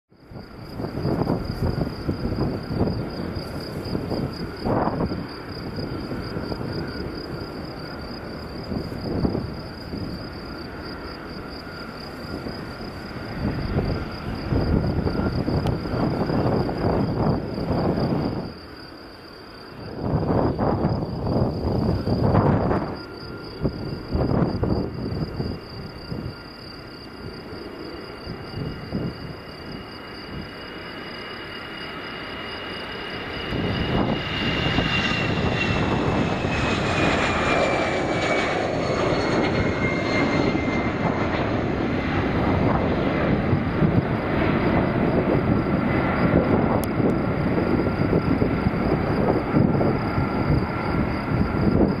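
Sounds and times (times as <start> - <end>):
high fan whine: 0.1 - 52.0
jet airliner taking off: 0.1 - 52.0.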